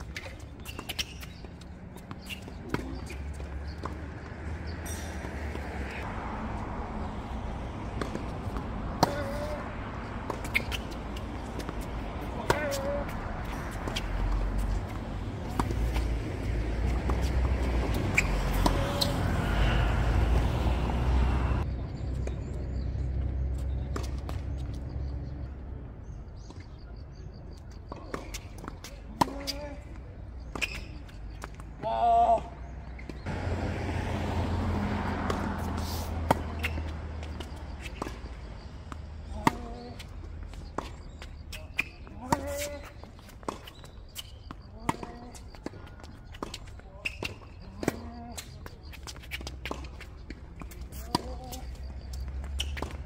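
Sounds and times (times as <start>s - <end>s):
tennis balls struck with rackets: 0.0s - 6.1s, 7.7s - 22.8s, 26.4s - 33.4s, 34.7s - 53.0s.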